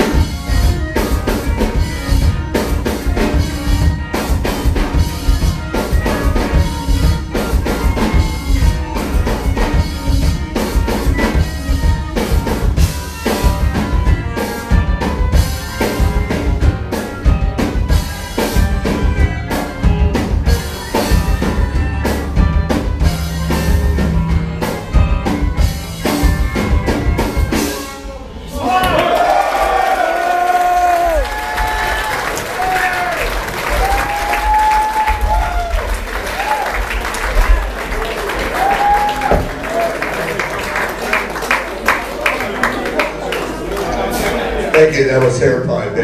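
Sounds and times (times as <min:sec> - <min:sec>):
drum kit: 0:00.0 - 0:42.8
rock band playing live: 0:00.0 - 0:46.0.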